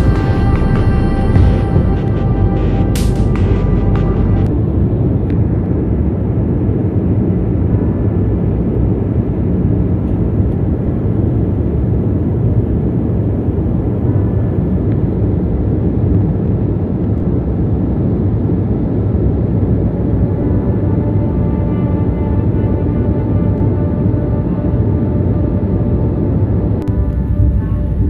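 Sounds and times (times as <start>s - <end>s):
jet airliner cabin engine noise: 0.0s - 28.0s.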